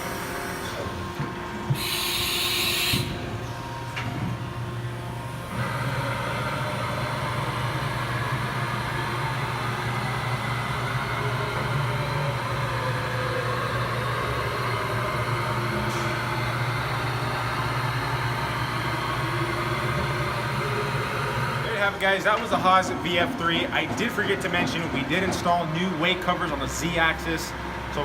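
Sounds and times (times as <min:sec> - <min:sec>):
machine mechanical hum: 0:00.0 - 0:28.0.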